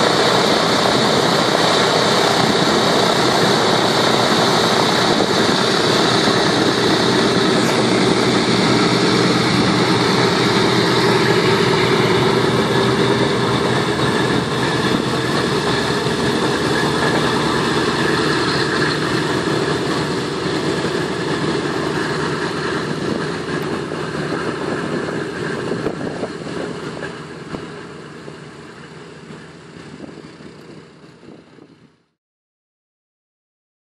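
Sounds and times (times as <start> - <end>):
aircraft radial engines running: 0.0 - 32.1.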